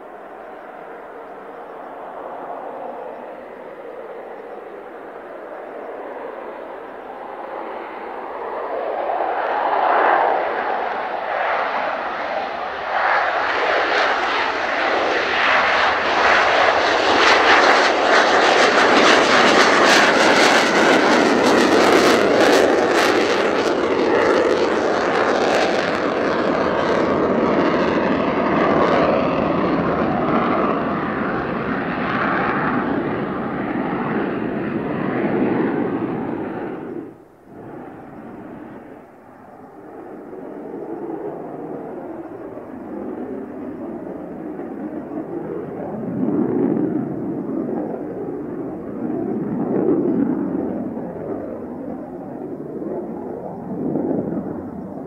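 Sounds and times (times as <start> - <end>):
jet engines at full power: 0.0 - 55.0.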